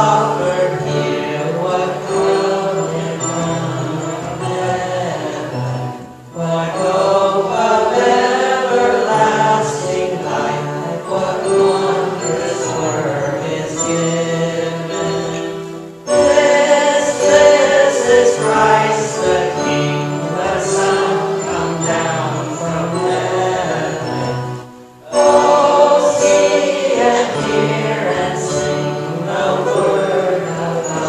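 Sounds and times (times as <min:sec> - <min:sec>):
instrumental accompaniment: 0:00.0 - 0:31.0
voices singing a hymn: 0:00.0 - 0:31.0.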